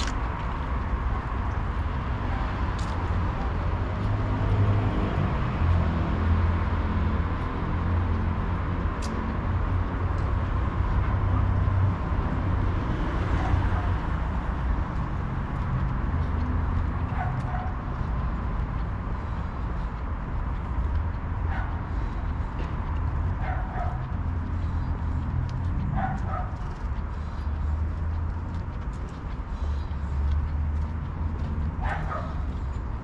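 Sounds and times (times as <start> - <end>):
low traffic rumble: 0.0 - 33.0
vehicle passing: 0.0 - 33.0.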